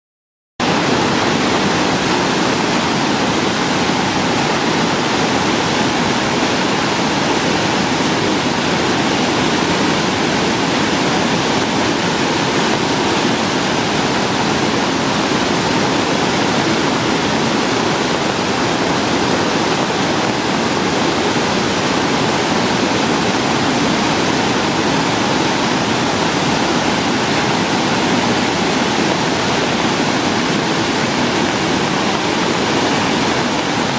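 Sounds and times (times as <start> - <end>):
water rushing over dam spillway: 0.6 - 33.9.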